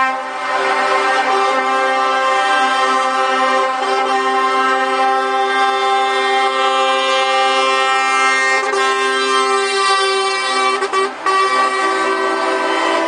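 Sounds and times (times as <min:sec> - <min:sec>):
truck air horns chord: 0:00.0 - 0:13.0.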